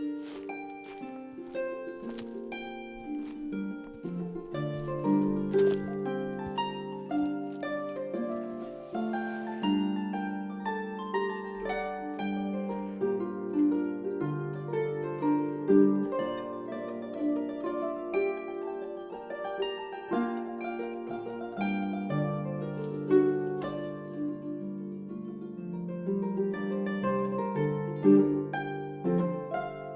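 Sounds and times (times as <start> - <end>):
gentle plucked harp melody: 0.0 - 29.9.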